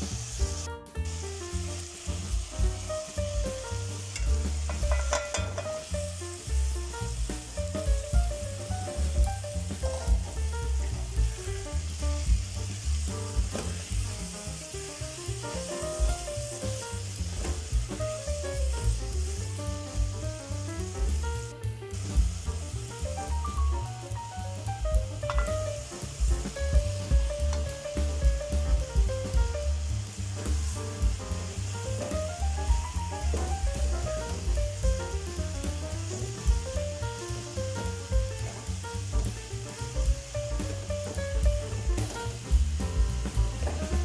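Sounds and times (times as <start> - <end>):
background music: 0.0 - 44.0
vegetables sizzling in oil: 0.0 - 44.0.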